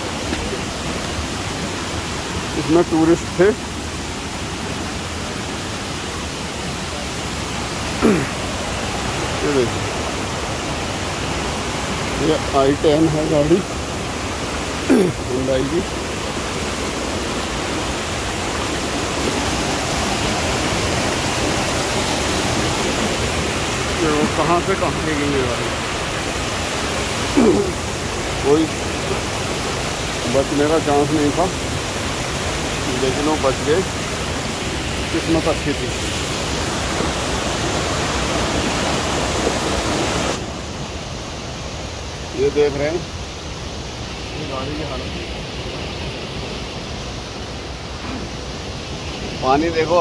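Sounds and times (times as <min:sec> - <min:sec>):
stream cascading over boulders: 0:00.0 - 0:50.0.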